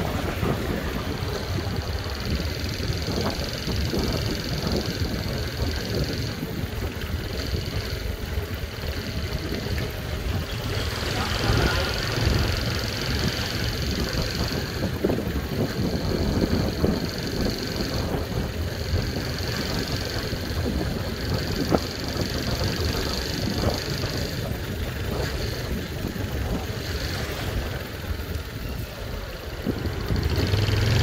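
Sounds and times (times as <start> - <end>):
motor scooter engine running: 0.0 - 31.0
wind rumble on microphone: 0.0 - 31.0.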